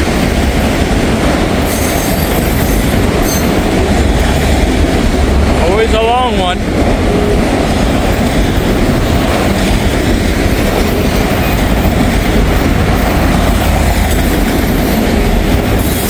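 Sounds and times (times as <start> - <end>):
freight train wheels rumbling on rails: 0.0 - 16.0.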